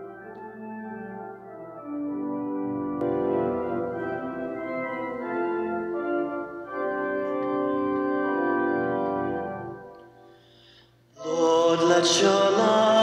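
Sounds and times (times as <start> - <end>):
organ playing sustained chords: 0.0 - 13.0.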